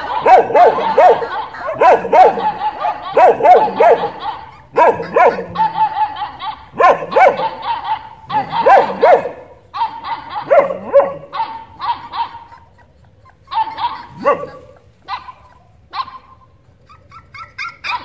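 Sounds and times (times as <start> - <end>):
dog barking: 0.0 - 12.8, 13.5 - 16.5, 17.2 - 18.0.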